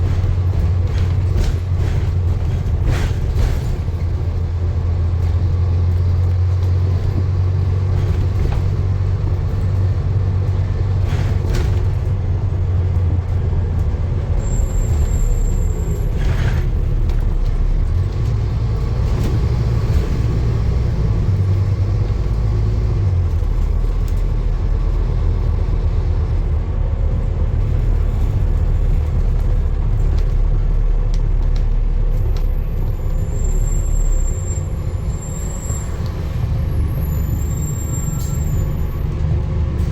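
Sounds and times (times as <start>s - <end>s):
vehicle low rumble: 0.0s - 39.9s.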